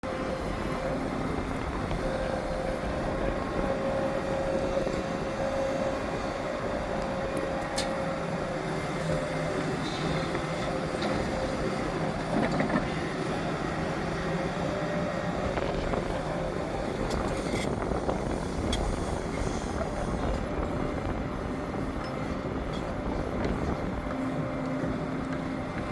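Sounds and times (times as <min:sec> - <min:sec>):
excavator engine and hydraulics: 0:00.0 - 0:25.9
steady whine: 0:00.0 - 0:25.9.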